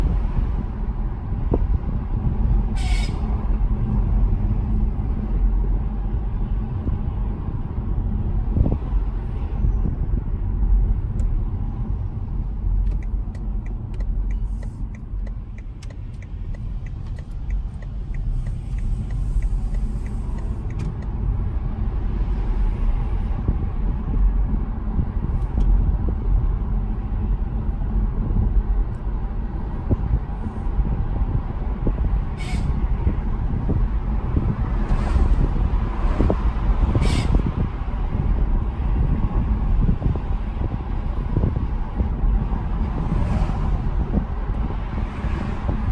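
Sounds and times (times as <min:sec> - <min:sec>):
car cabin road rumble: 0:00.0 - 0:45.9.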